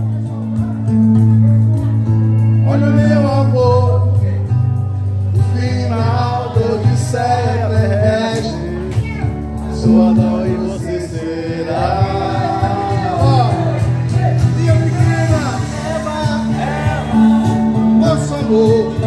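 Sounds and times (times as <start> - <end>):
amplified acoustic guitar: 0.0 - 19.0
low bass notes: 0.0 - 19.0
man singing into a microphone: 0.0 - 19.0.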